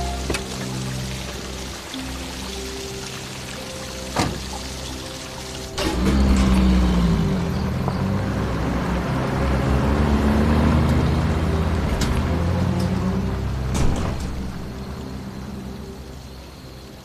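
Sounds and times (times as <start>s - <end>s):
car engine starting and running: 0.0s - 17.0s.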